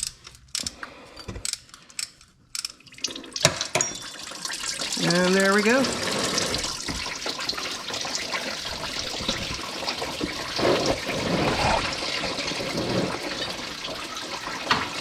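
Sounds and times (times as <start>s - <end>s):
liquid pouring into bucket: 2.8s - 15.0s.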